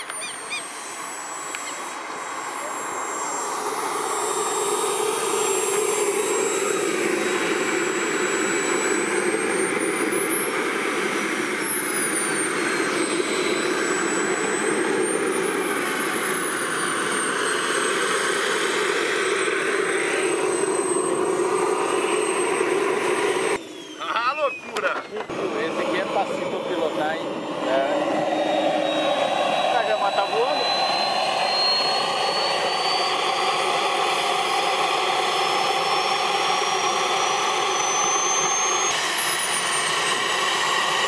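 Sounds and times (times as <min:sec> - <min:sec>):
model jet turbine whine: 0:00.0 - 0:41.0.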